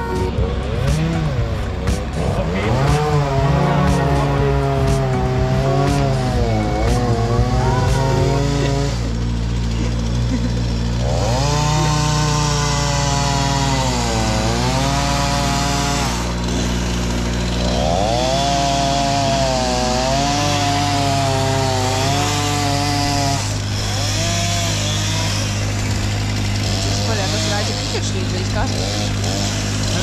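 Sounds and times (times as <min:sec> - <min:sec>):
chainsaw cutting wood: 0:00.0 - 0:30.0
low engine hum: 0:00.0 - 0:30.0.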